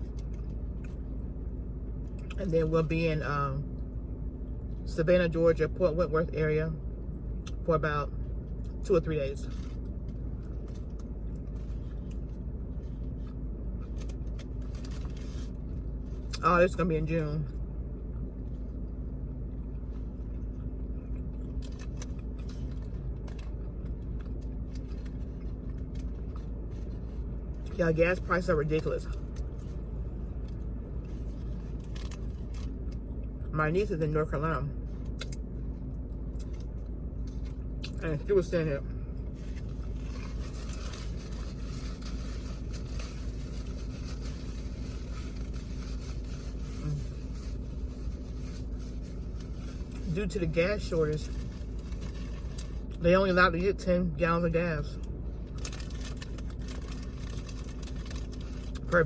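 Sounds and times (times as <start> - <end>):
car interior rumble: 0.0 - 59.0
faint steady hum: 0.0 - 59.0.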